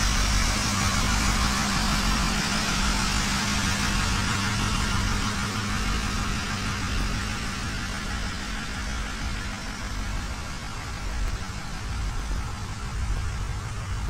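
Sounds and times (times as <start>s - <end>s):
diesel locomotives idling: 0.0s - 14.0s.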